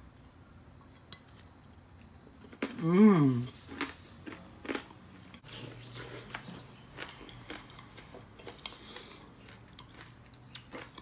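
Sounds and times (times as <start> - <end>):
man chewing with mouth clicks: 0.8 - 11.0.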